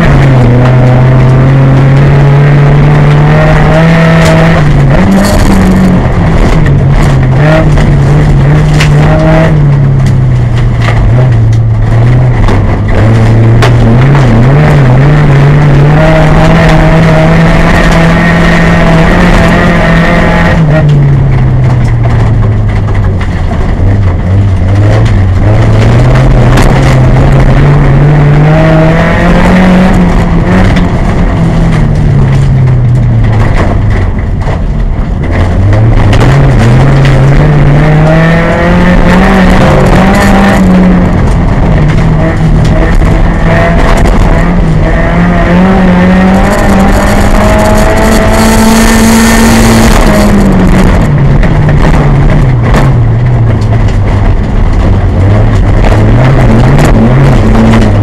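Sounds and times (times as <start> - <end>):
car engine running hard: 0.0 - 58.0.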